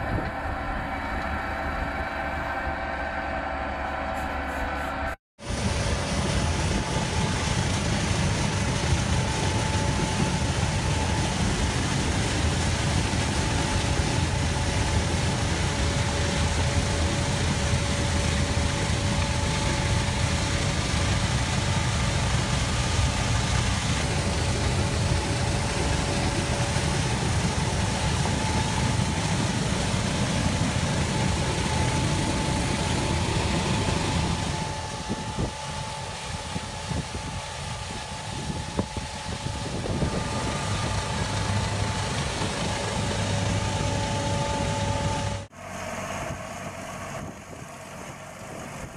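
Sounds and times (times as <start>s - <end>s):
faint steady whine: 0.0s - 48.9s
tractor engine rumbling: 0.0s - 48.9s.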